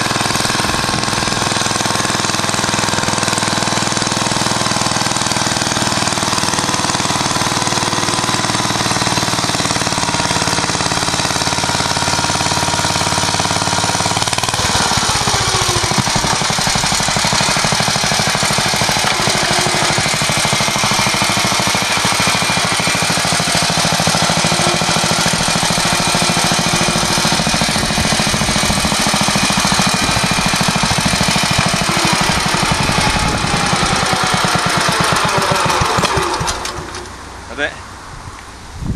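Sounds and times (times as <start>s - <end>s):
tractor engine running: 0.0s - 38.8s.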